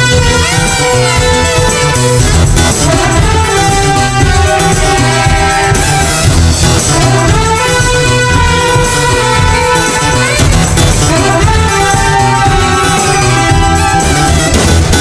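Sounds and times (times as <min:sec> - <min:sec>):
brass section: 0:00.0 - 0:15.0
jazz big band playing: 0:00.0 - 0:15.0.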